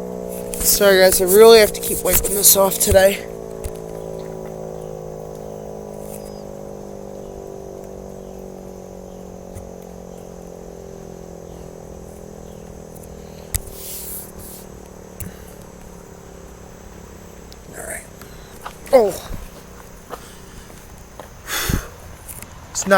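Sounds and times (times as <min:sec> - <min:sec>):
siren winding down: 0:00.0 - 0:20.1
rustle with sharp clicks: 0:00.1 - 0:22.9.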